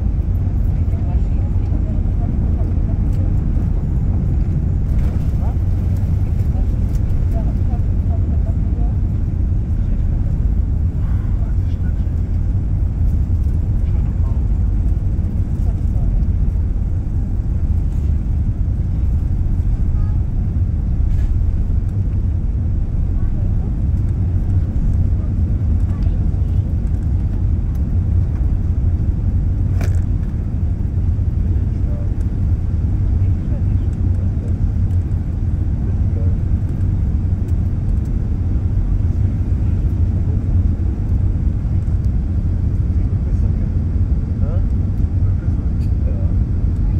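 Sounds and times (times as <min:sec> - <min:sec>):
jet engine cabin roar: 0:00.0 - 0:46.9.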